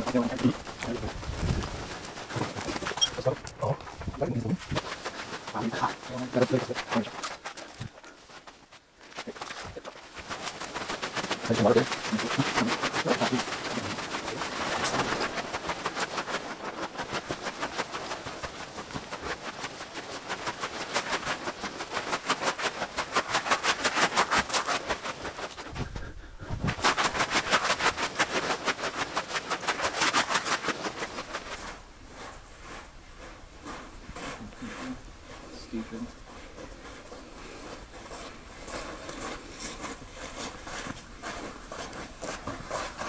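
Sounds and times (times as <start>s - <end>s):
quick footsteps on sand: 0.0s - 43.0s.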